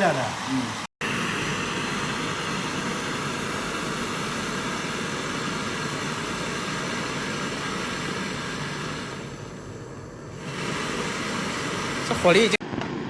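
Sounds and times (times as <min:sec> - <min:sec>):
welding torch flame hissing: 0:00.0 - 0:13.0.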